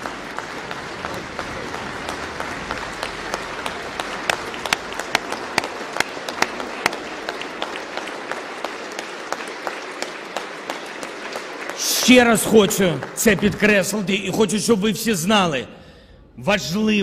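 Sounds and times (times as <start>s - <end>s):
crowd applauding: 0.0s - 15.5s.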